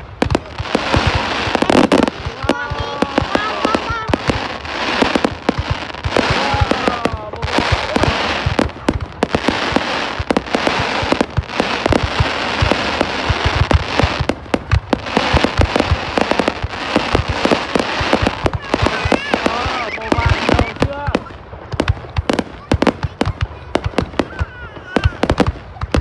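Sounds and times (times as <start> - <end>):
firework bursts and bangs: 0.0 - 26.0
firework crackling: 0.0 - 26.0.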